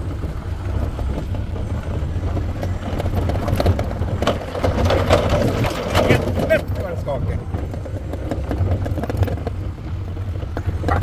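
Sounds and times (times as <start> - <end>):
clattering and rattling: 0.0 - 11.0
forklift engine hum: 0.0 - 11.0.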